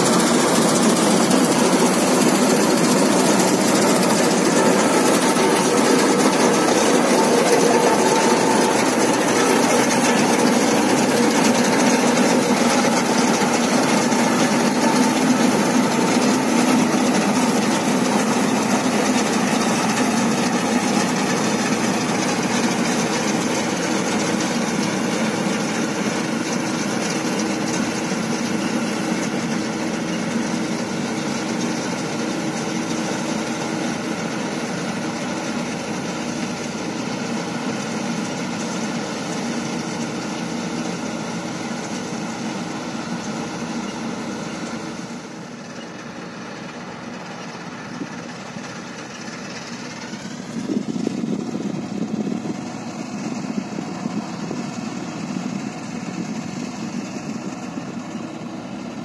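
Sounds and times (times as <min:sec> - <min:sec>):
combine harvester drone: 0:00.0 - 0:59.0.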